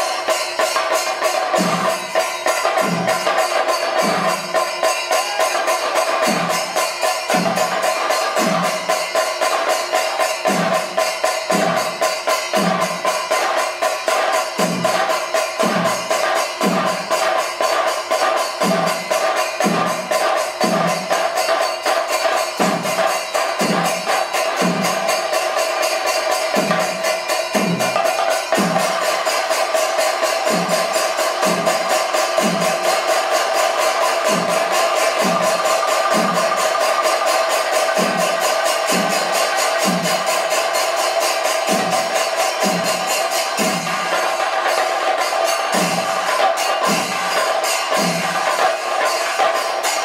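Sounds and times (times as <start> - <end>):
cymbals keeping time: 0.0 - 50.0.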